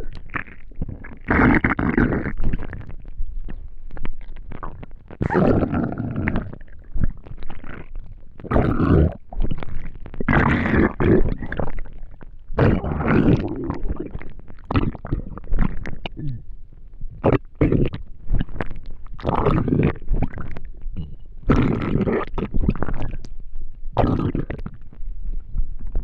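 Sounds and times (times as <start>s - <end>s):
stomach growling and gurgling: 0.0s - 26.0s.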